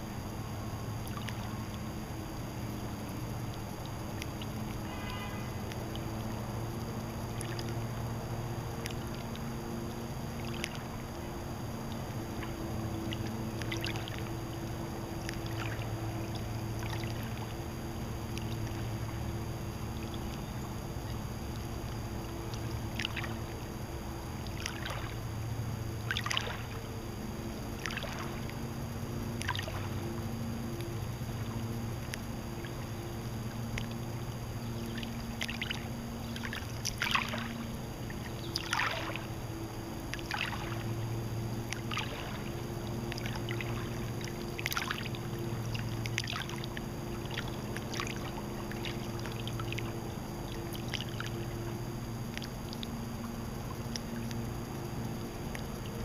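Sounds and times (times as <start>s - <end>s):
small waves lapping at shore: 0.0s - 56.0s
steady low hum: 0.0s - 56.0s.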